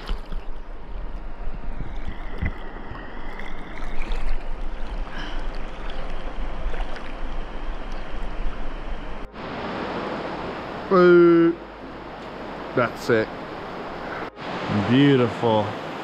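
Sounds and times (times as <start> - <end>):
river water sloshing and splashing: 0.0 - 11.0, 11.6 - 16.0.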